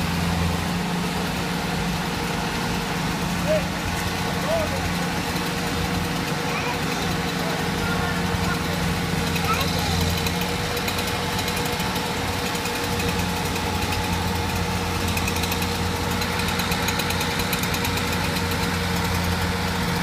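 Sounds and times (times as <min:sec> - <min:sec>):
engine idling: 0:00.0 - 0:20.0
fine even ticking: 0:01.9 - 0:19.9.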